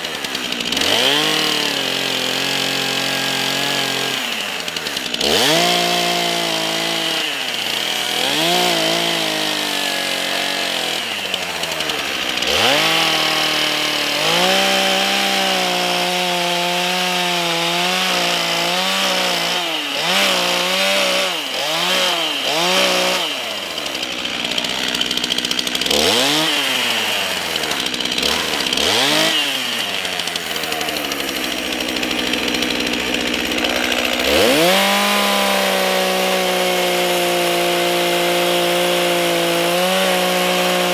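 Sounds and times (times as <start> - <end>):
chainsaw cutting into log: 0.0 - 40.9.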